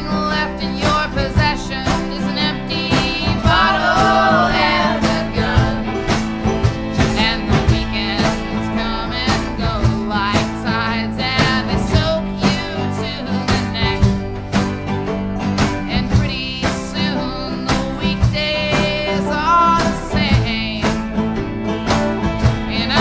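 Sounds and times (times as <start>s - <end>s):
folk-rock band music: 0.0s - 23.0s.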